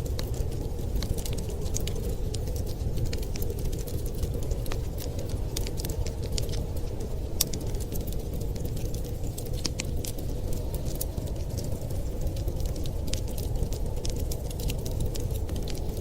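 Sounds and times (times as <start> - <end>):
storm wind rumbling: 0.0 - 16.0
wood fire crackling: 0.0 - 16.0.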